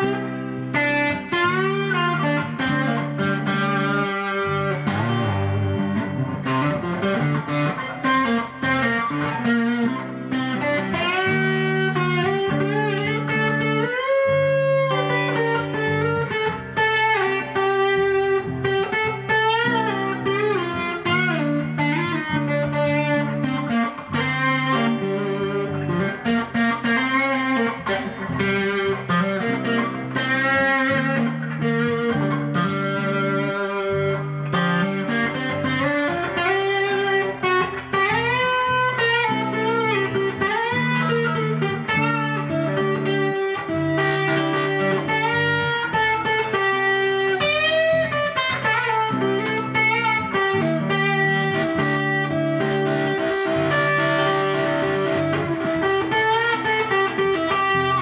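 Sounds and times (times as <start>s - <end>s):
electric guitar lead with bends: 0.0s - 58.0s.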